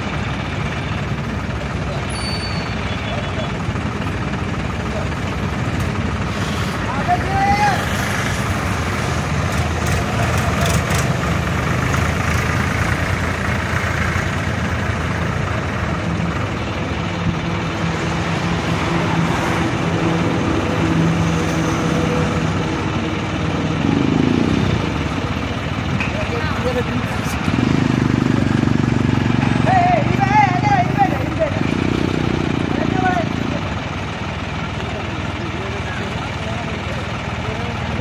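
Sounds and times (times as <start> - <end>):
crane engine idling: 0.0 - 38.0.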